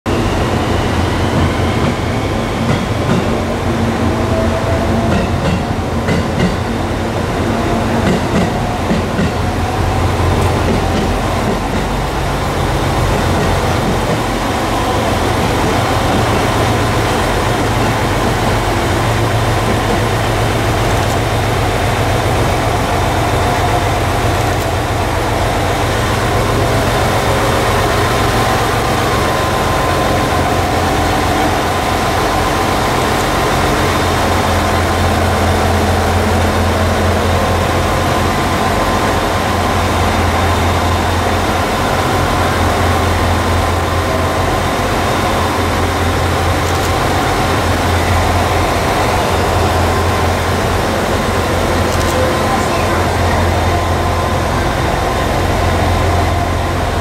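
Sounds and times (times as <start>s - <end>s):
diesel train engines idling: 0.1s - 57.0s.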